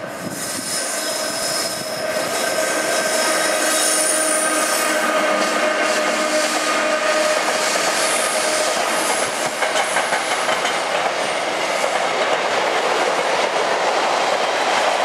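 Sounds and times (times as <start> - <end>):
high whine of locomotive: 0.0 - 15.0
train wheels rumbling: 0.0 - 15.0.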